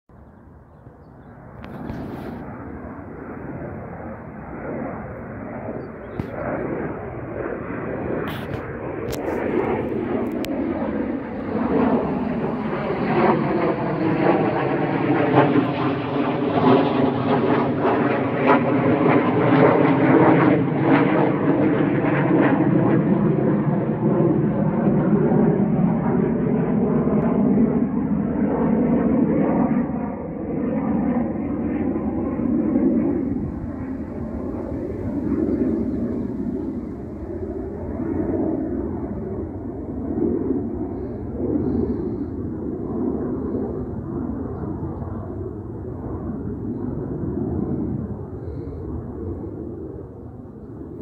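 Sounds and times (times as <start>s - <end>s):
aircraft engine passing overhead: 0.1s - 51.0s.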